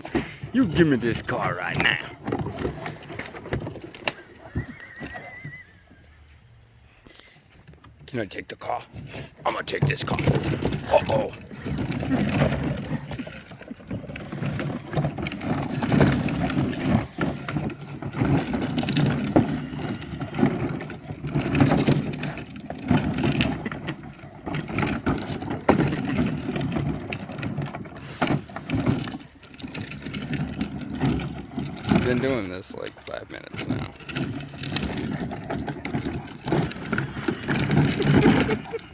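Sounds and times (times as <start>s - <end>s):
plastic toy car rattling on floor: 0.0s - 5.6s, 7.8s - 38.9s.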